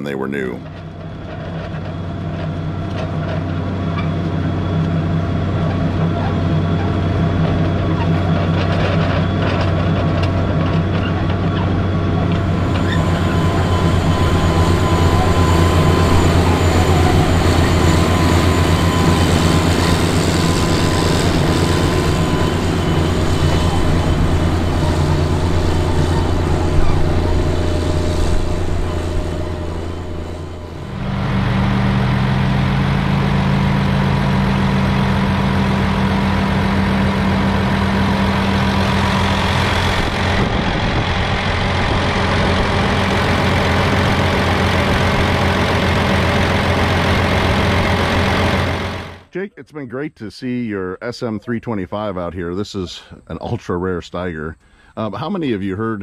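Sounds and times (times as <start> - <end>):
tractor diesel engine under load: 0.0 - 49.4.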